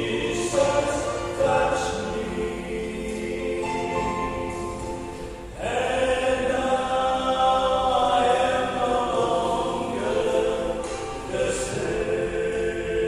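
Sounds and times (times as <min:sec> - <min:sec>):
male group singing in harmony: 0:00.0 - 0:13.0.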